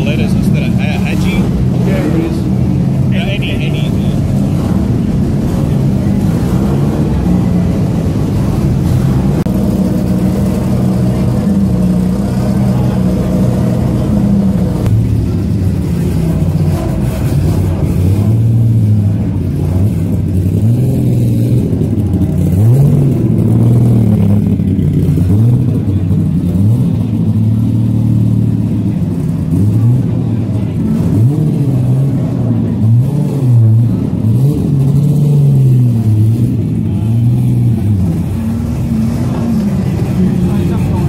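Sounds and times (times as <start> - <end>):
car engine idling with throttle blips: 0.0 - 41.0.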